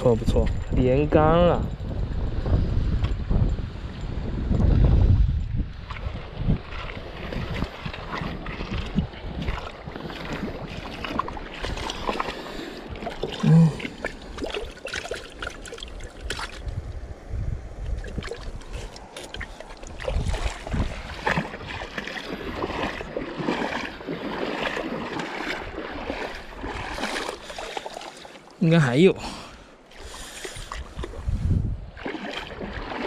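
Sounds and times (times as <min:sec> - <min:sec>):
river water splashing: 0:05.6 - 0:33.0.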